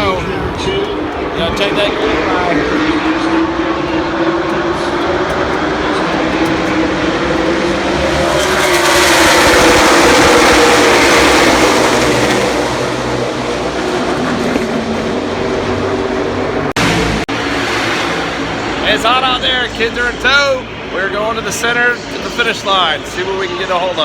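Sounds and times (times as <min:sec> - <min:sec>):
race cars racing past: 0:00.0 - 0:24.0.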